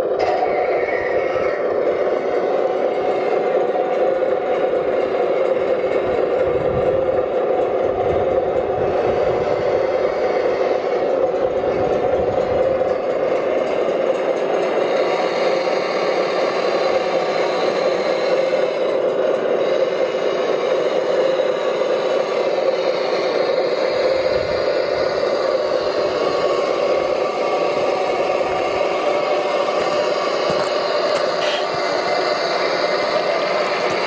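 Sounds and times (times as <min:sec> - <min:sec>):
electric motors whirring: 0:00.0 - 0:19.6, 0:23.8 - 0:34.0
clatter: 0:00.1 - 0:21.4, 0:25.4 - 0:34.0.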